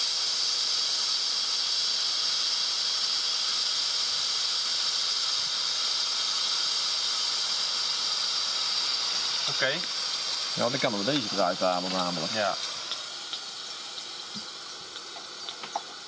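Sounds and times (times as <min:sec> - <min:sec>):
compressed air hissing from valve: 0:00.0 - 0:16.0.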